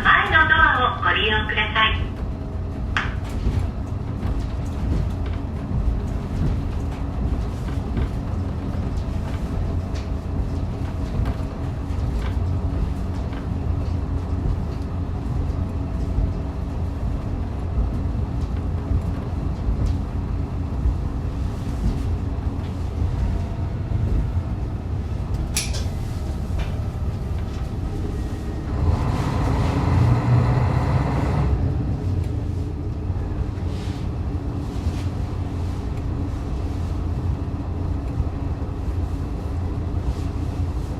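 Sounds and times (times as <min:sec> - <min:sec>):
railcar engine and wheels rumbling: 0:00.0 - 0:40.9.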